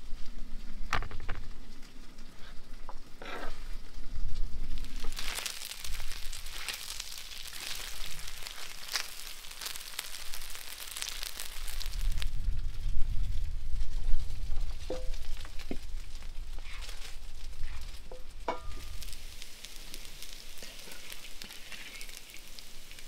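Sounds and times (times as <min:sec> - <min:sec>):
chicken sizzling in oil: 0:02.4 - 0:12.4, 0:14.4 - 0:23.0.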